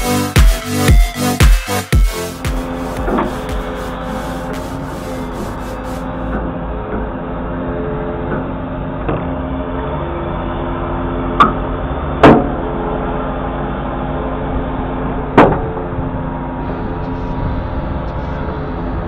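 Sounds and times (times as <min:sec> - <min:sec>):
diesel truck engine running: 0:02.1 - 0:19.0.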